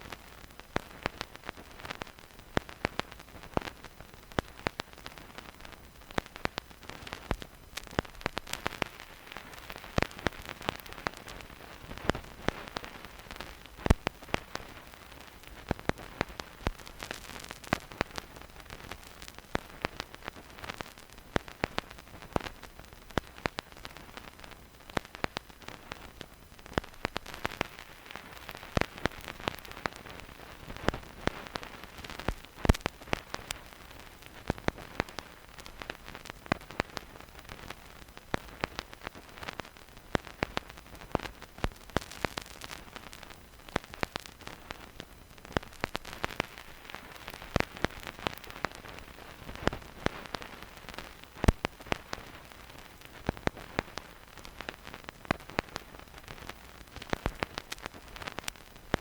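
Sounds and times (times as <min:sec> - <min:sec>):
faint steady hiss: 0:00.0 - 0:59.0
vinyl crackles and pops: 0:00.0 - 0:59.0.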